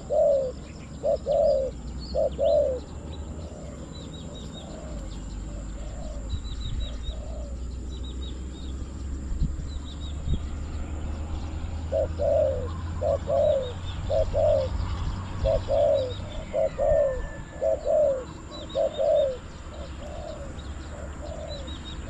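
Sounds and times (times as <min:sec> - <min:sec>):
doves cooing: 0:00.0 - 0:09.0, 0:11.1 - 0:22.0
low wind rumble: 0:00.0 - 0:22.0
small birds chirping: 0:00.0 - 0:22.0.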